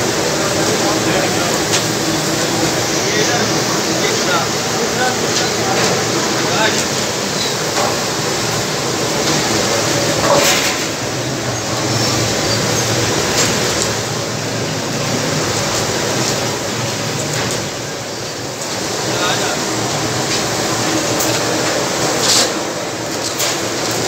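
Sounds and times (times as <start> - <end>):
fish deep-frying in oil: 0.0 - 24.0.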